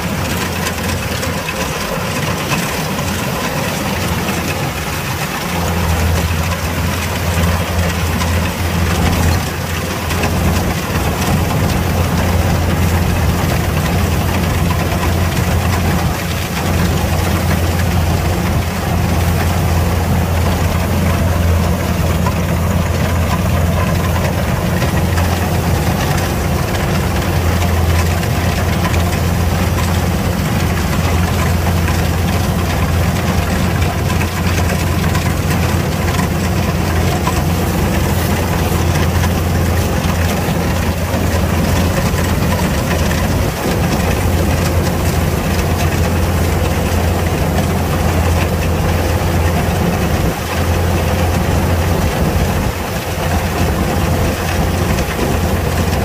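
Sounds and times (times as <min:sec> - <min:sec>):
combine harvester diesel drone: 0:00.0 - 0:56.0.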